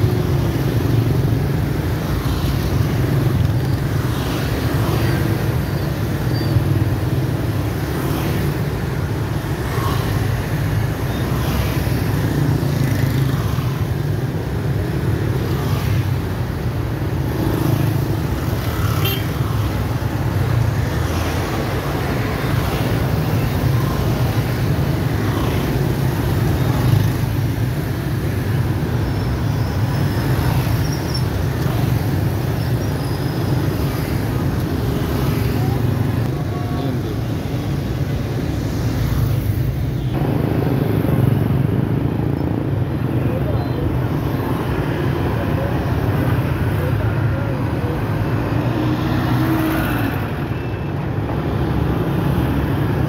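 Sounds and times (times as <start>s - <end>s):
dense traffic engine rumble: 0.0s - 53.0s.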